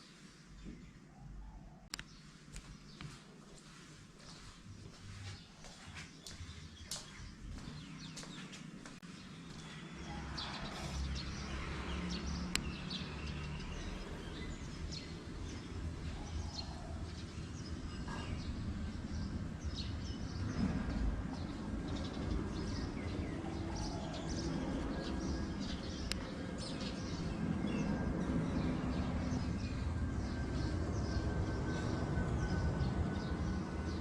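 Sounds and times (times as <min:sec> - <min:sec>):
birds chirping: 0:00.5 - 0:34.0.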